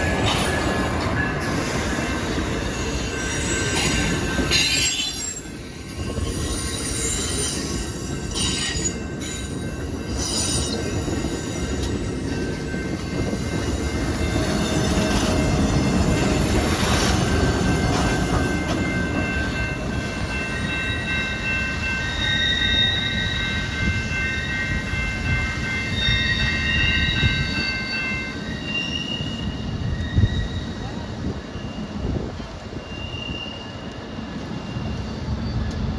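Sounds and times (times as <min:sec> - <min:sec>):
low train running noise: 0:00.0 - 0:35.9
train wheels squealing on rails: 0:00.0 - 0:35.9.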